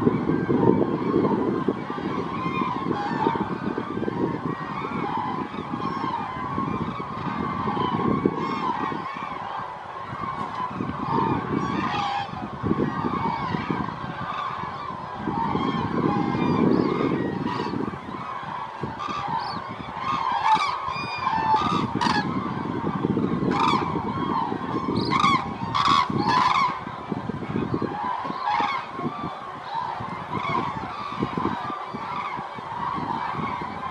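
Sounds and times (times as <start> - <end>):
waterfowl honking: 0.0 - 33.9.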